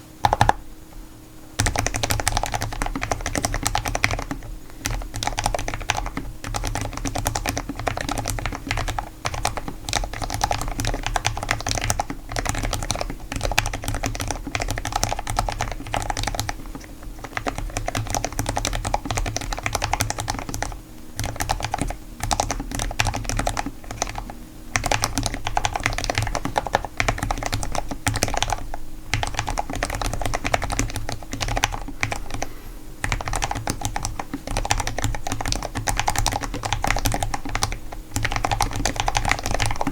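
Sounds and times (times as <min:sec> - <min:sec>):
fast typing on mechanical keyboard: 0:00.0 - 0:00.6, 0:01.6 - 0:39.9.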